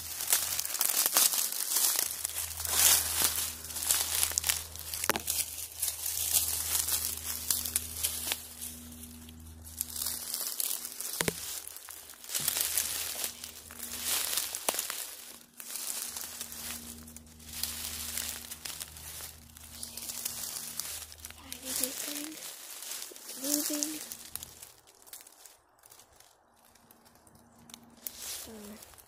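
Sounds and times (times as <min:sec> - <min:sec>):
footsteps through dry leaves: 0:00.0 - 0:29.0
twigs snapping: 0:00.0 - 0:29.0.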